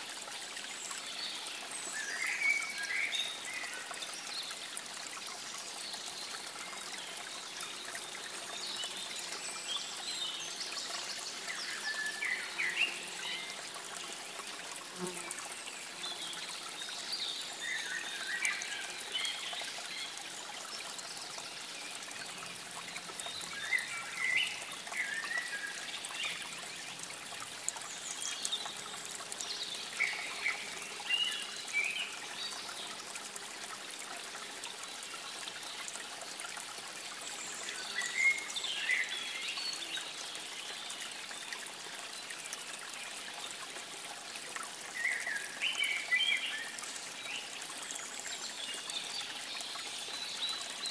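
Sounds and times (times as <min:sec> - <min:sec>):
water trickling over stones: 0:00.0 - 0:50.9.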